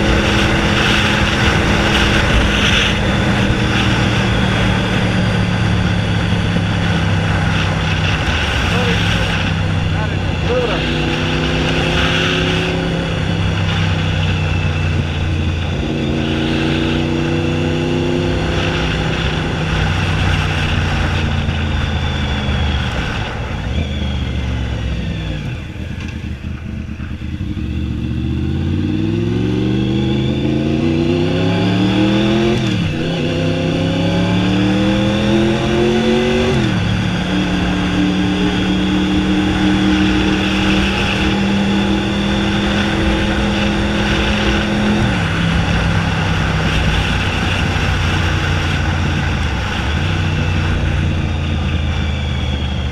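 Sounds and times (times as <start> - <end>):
motorcycle engine through open exhaust: 0.0 - 52.9.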